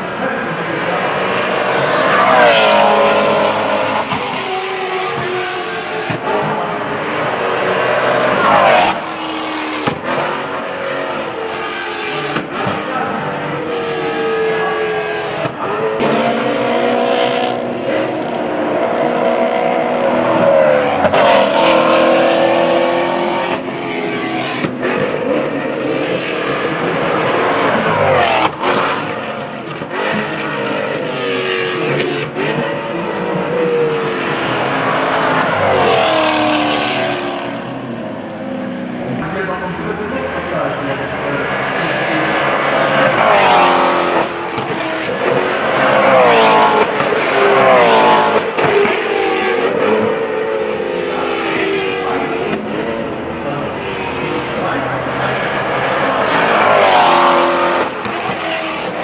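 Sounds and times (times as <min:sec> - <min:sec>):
race cars passing at speed: 0:00.0 - 0:59.0.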